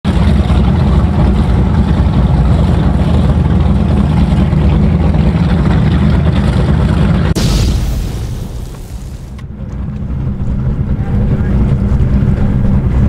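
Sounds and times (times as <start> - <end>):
powerboat engines low rumble: 0.0 - 13.0.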